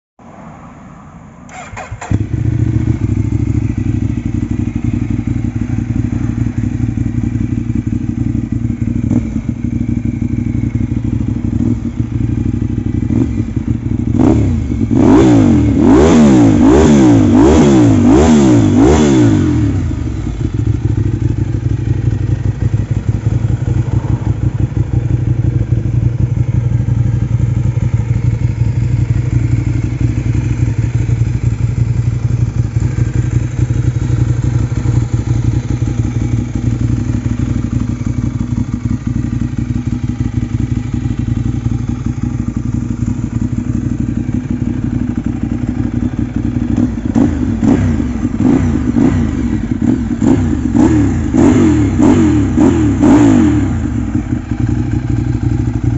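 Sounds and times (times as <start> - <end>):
motorcycle engine idling and revving: 0.2 - 55.9.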